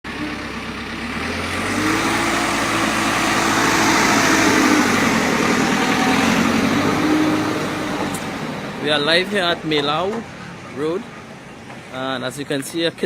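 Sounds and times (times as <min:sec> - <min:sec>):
vehicle engine humming: 0:00.1 - 0:13.0.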